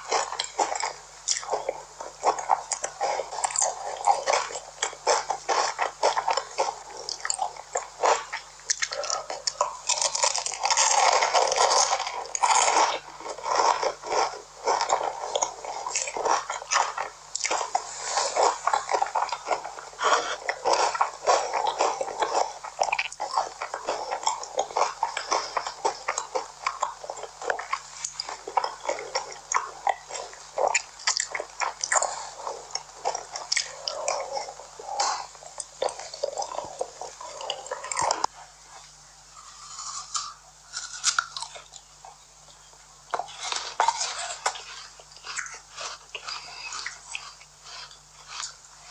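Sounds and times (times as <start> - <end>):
chewing and biting food: 0.0 - 48.9.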